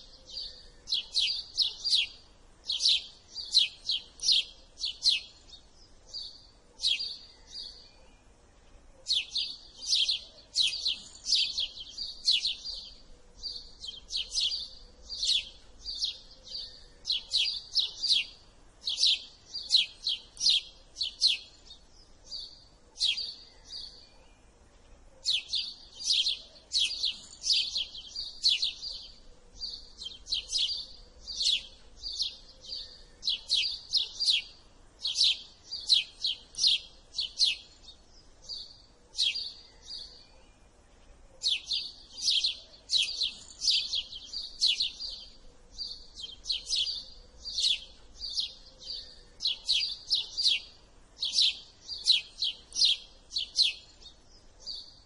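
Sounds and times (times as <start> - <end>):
sparrow chirping: 0.0 - 55.0.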